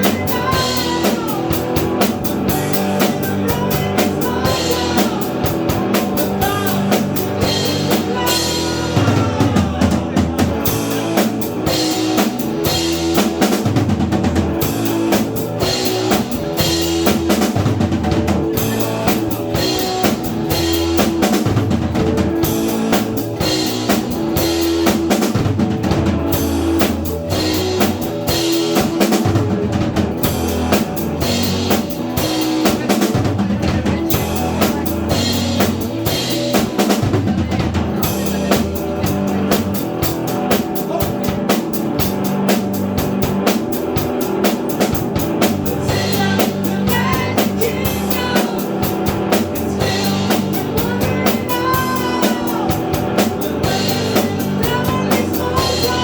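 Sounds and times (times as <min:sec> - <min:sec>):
band playing a song: 0:00.0 - 0:56.0
drum kit beat: 0:00.0 - 0:56.0.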